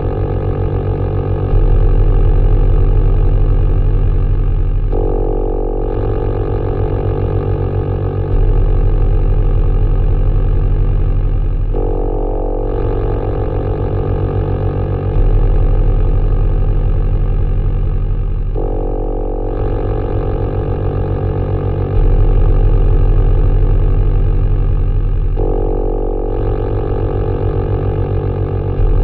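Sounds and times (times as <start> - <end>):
raspy synth drone: 0.0 - 29.0.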